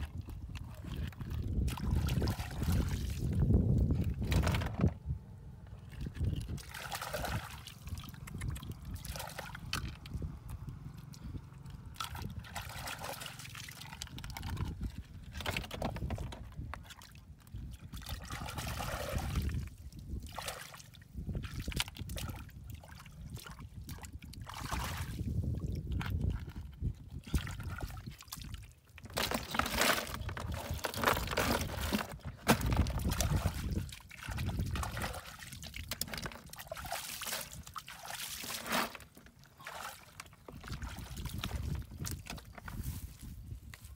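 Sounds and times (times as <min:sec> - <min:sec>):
mud squelching and splashing: 0:00.0 - 0:04.8, 0:05.7 - 0:43.9.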